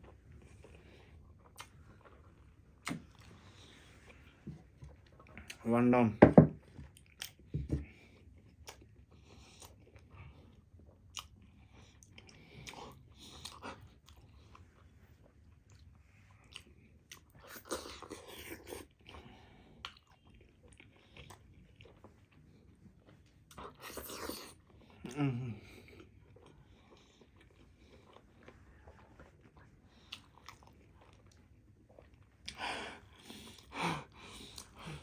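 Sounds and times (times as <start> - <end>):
person chewing with mouth noises: 0.0 - 5.7, 6.9 - 35.0.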